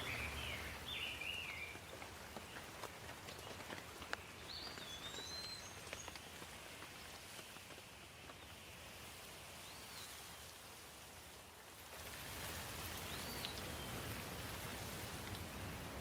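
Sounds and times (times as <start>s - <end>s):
light rain: 0.0s - 16.0s
raindrops hitting close by: 0.0s - 16.0s.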